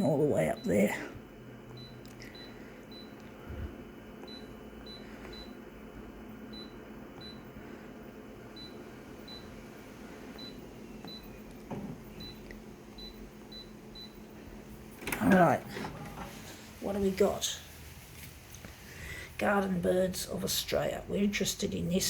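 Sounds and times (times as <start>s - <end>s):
photocopier humming: 0.0s - 22.0s.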